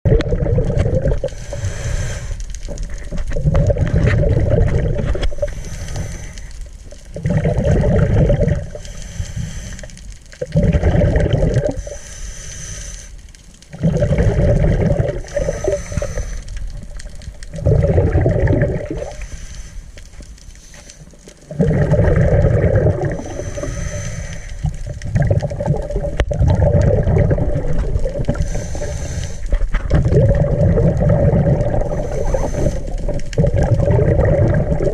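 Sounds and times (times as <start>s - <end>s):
underwater bubbles gurgling: 0.0s - 34.9s.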